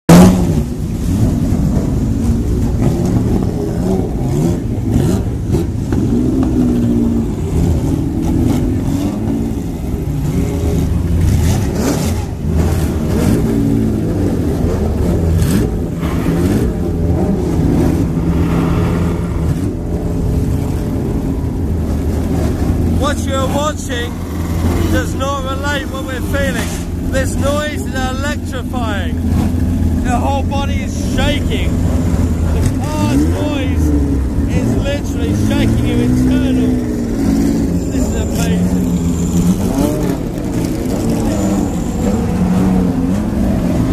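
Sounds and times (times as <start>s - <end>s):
racing car engines revving: 0.1s - 43.9s.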